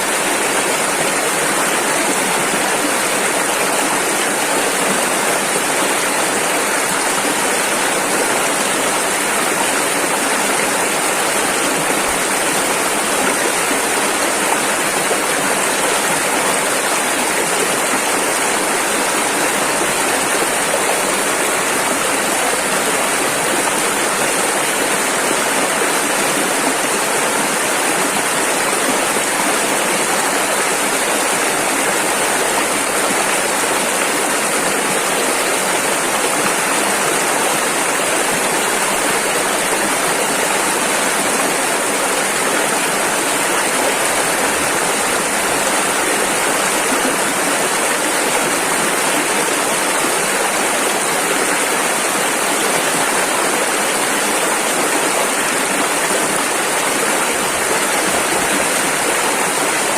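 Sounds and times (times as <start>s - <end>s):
rushing river water: 0.0s - 59.9s.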